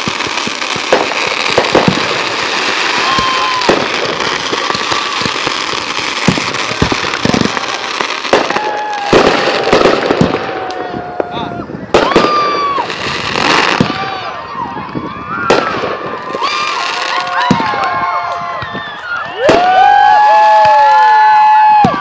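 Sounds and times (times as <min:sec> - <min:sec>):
fireworks bangs and crackling: 0:00.0 - 0:22.0
whistling fireworks: 0:00.0 - 0:22.0.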